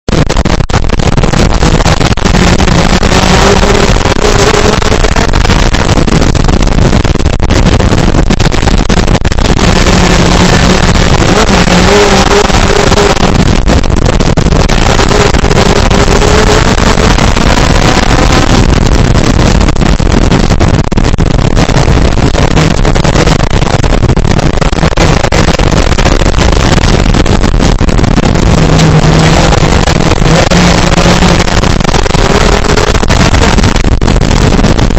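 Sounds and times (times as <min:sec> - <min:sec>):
heavy rushing noise: 0:00.0 - 0:34.9
buggy engine revving: 0:00.1 - 0:34.9.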